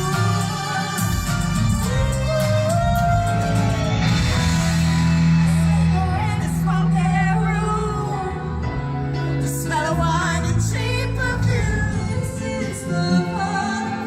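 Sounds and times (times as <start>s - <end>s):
pop song with singer and band: 0.0s - 14.0s.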